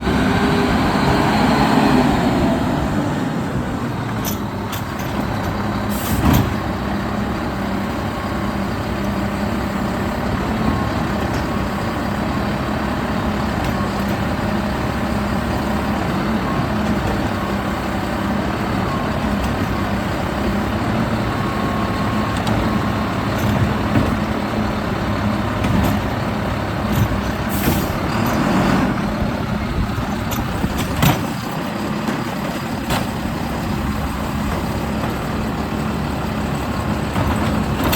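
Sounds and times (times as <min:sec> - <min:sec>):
garbage truck diesel engine: 0:00.0 - 0:37.9.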